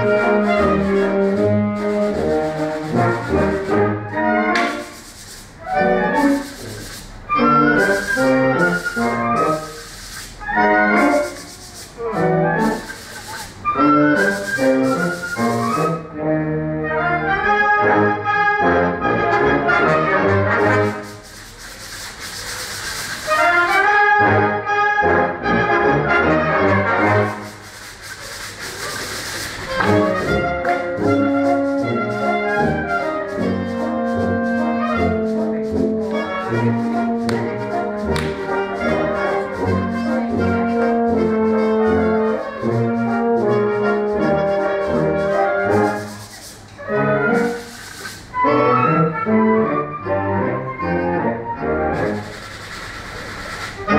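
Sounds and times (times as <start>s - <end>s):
sandpaper blocks rubbing: 0.0s - 16.0s, 20.2s - 23.9s, 26.8s - 48.8s, 52.0s - 53.9s
brass band playing: 0.0s - 53.9s.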